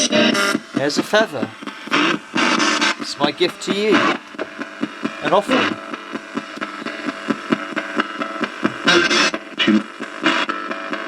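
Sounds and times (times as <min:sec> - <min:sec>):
radio static sweeping stations: 0:00.0 - 0:10.6.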